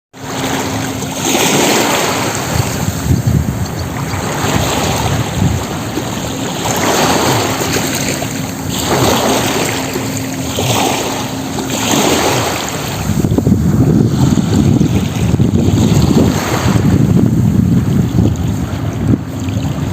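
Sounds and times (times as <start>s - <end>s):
sea waves washing in: 0.2s - 19.9s
wind buffeting microphone: 0.2s - 19.9s.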